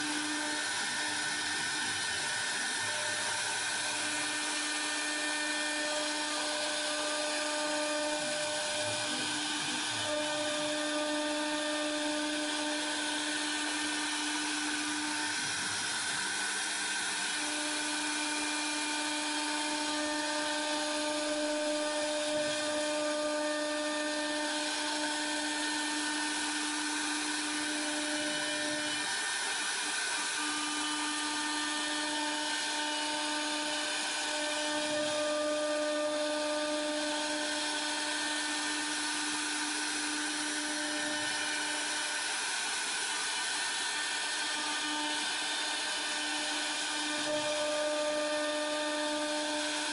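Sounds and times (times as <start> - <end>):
router spindle high-pitched whine: 0.0 - 49.9.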